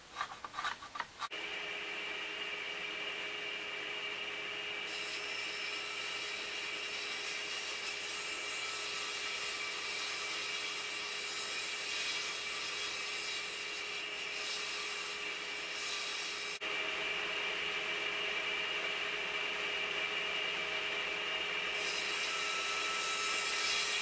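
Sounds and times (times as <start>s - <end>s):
table saw motor humming: 1.3s - 24.0s.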